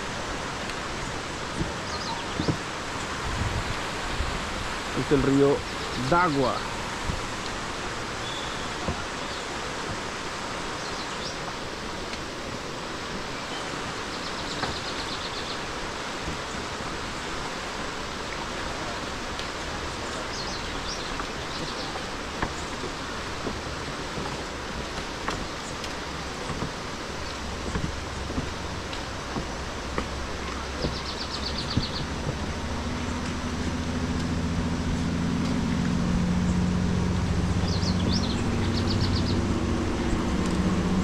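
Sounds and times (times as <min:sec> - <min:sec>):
steady rushing noise: 0:00.0 - 0:41.0.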